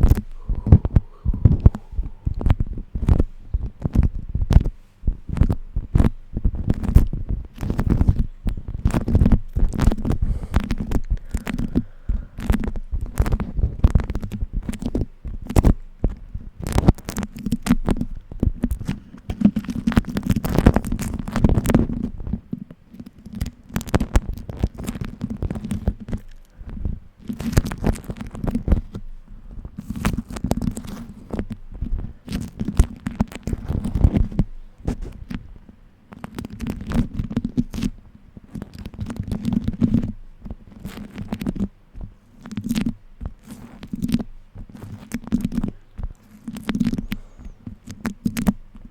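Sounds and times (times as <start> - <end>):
low rumble of handling: 0.0 - 48.9
wax wrap crinkling and popping: 0.0 - 48.9.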